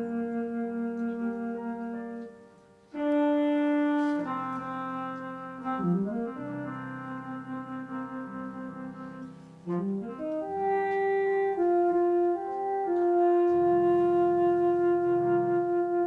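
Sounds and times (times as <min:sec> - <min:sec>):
instrumental music with held chords: 0:00.0 - 0:16.0.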